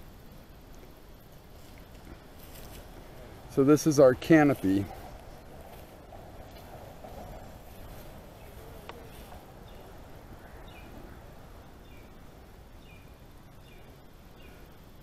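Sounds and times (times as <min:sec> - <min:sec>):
low steady rumble: 0:00.0 - 0:15.0
small birds chirping: 0:00.8 - 0:15.0.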